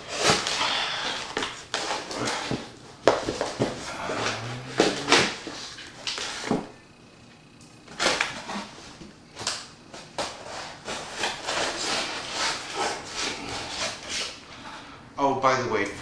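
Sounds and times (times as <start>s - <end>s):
packing tape tearing and scraping: 0.0s - 6.6s, 7.9s - 14.4s.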